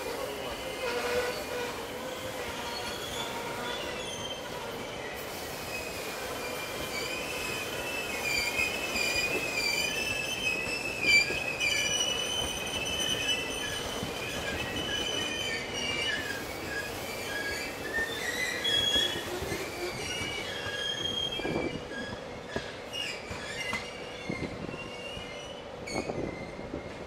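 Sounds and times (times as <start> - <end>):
train rolling noise: 0.0 - 27.0
train wheels squealing on rails: 0.0 - 27.0.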